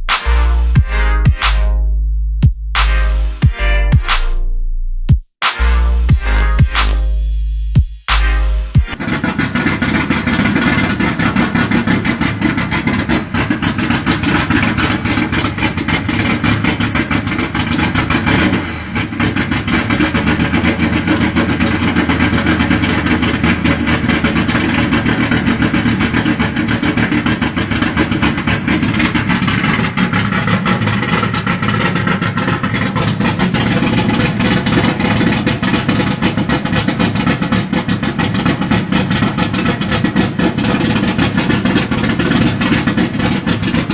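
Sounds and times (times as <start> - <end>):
engine running loudly at idle: 8.2 - 43.9.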